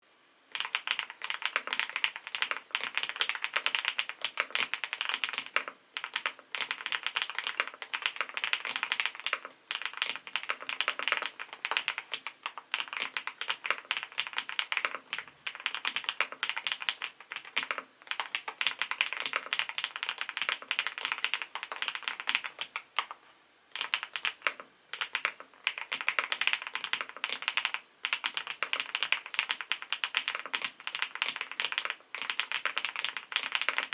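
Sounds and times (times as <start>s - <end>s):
mechanical keyboard typing: 0.5s - 23.2s, 23.8s - 33.9s.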